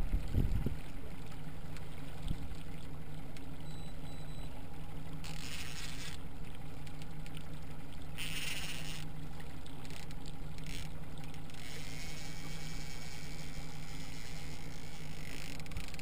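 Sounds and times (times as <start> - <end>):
outboard motor running: 0.0 - 16.0
water churning and splashing: 0.0 - 16.0.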